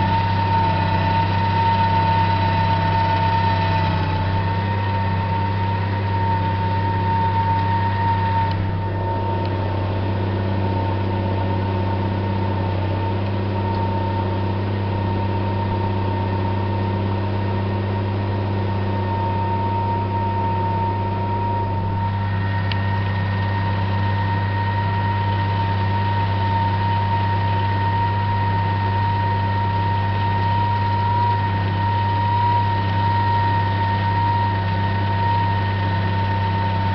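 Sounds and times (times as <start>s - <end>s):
high whine: 0.0s - 36.9s
tractor diesel engine droning: 0.0s - 36.9s.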